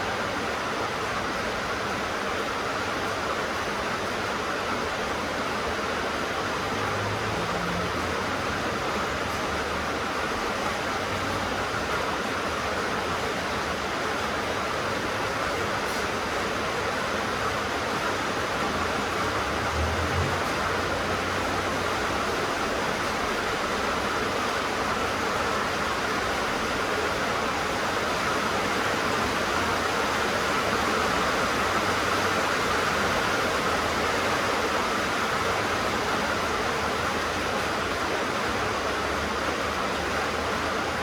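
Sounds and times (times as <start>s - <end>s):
rain on a tin roof: 0.0s - 41.0s.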